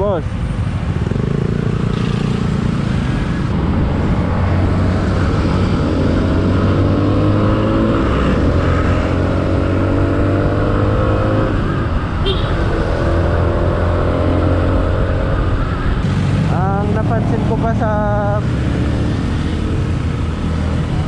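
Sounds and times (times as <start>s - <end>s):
motorcycle engine at high revs: 0.9s - 17.6s, 18.2s - 21.0s.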